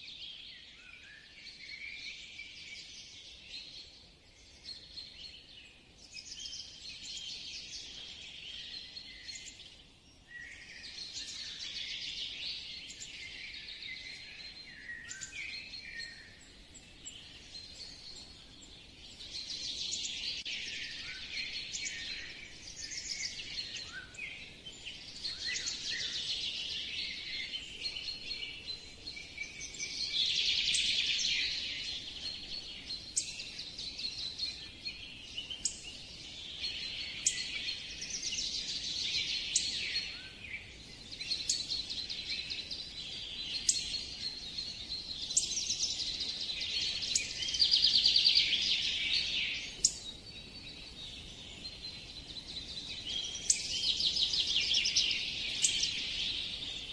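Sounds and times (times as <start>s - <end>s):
birds chirping and singing: 0.0s - 56.9s.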